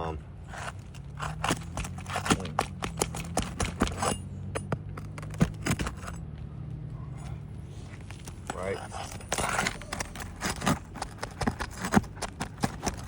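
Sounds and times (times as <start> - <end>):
metal tool scraping nails: 0.5 - 6.2, 7.8 - 13.0.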